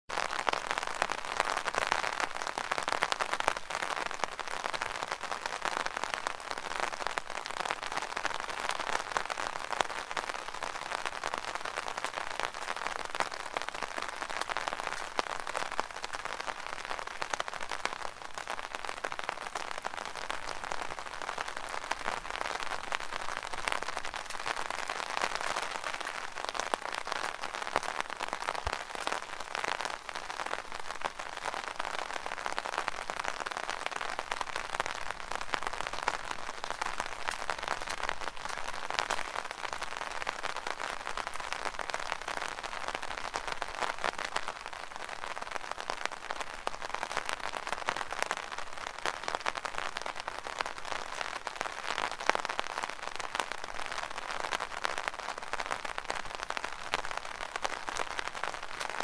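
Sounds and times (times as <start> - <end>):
rain falling on an umbrella: 0.0 - 59.0.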